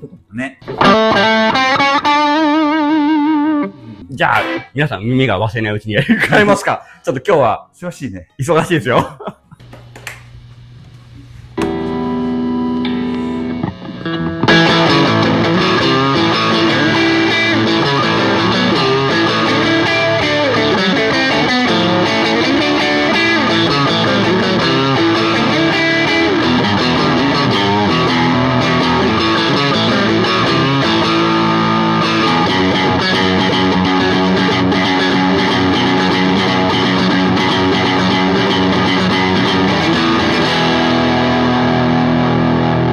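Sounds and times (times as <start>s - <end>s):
overdriven electric guitar: 0.0s - 4.8s, 11.6s - 42.9s.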